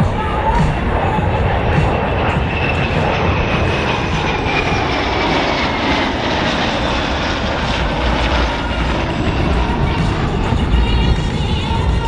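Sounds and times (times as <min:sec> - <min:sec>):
engine whine falling in pitch: 0:00.0 - 0:12.0
jet engines rushing: 0:00.0 - 0:12.0.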